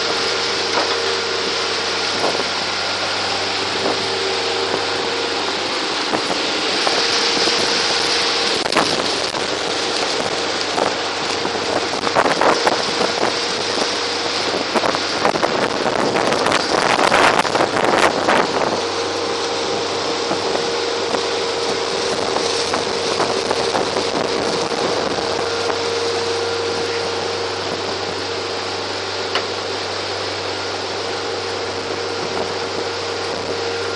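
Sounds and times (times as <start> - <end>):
boat engine drone: 0.0 - 33.9
rushing wind: 0.0 - 33.9
wake spray: 0.0 - 33.9
wind buffeting microphone: 0.0 - 33.9.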